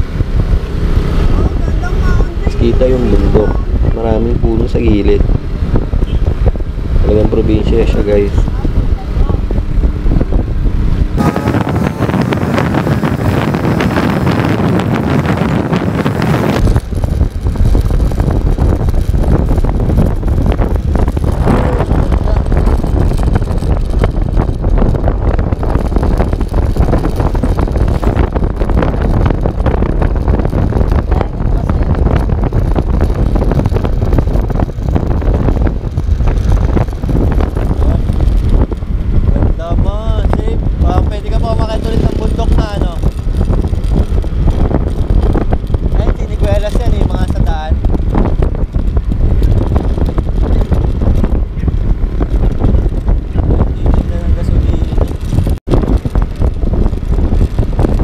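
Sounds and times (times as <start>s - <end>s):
wind buffeting microphone: 0.0s - 58.0s
scooter engine: 8.3s - 58.0s.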